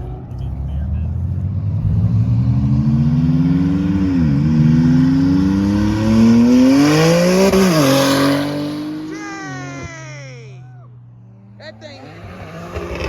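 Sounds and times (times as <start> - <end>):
car engine accelerating: 0.0 - 10.1, 11.0 - 13.0.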